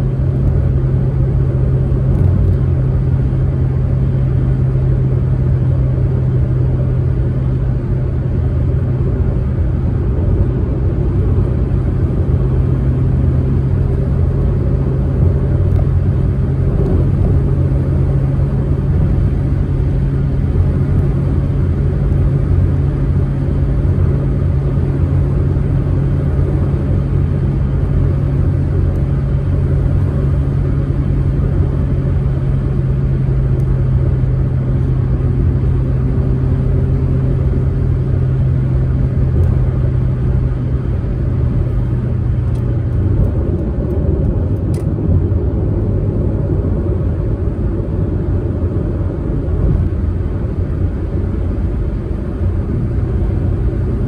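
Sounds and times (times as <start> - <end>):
car engine running steadily: 0.0 - 54.0
low road rumble: 0.0 - 54.0.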